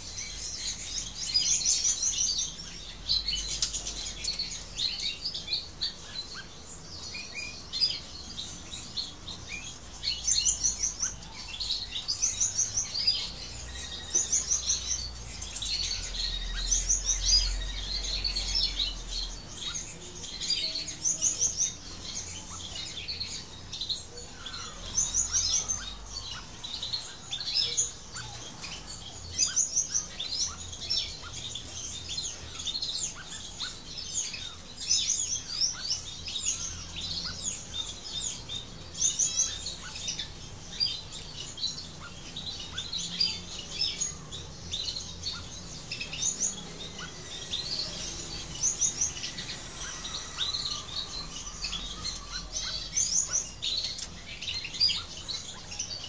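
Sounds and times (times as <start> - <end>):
finches chirping and trilling: 0.0 - 56.0.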